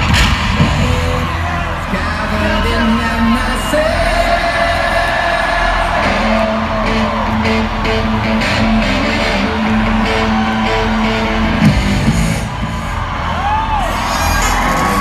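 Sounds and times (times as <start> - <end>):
loud live rock music: 0.0 - 15.0.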